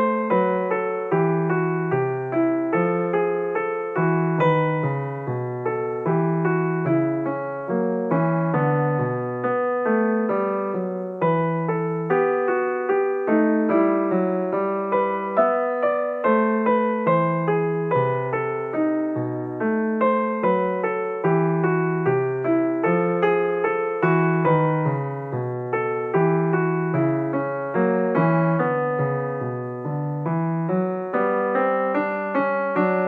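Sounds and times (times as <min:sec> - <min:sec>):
gentle piano melody: 0:00.0 - 0:33.0.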